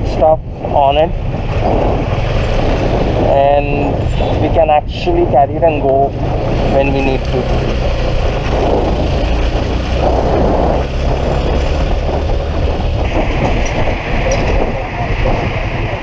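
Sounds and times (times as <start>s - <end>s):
wind and road noise: 0.0s - 16.0s
motorcycle engine running: 0.5s - 15.0s.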